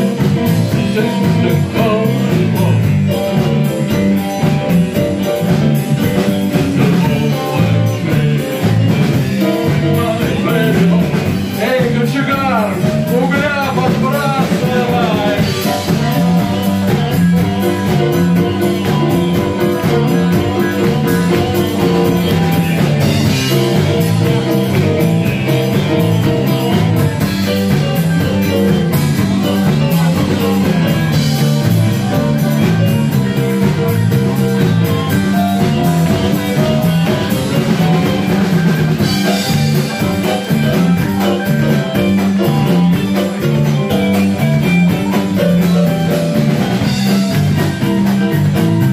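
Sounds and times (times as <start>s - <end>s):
blues band playing: 0.0s - 48.9s.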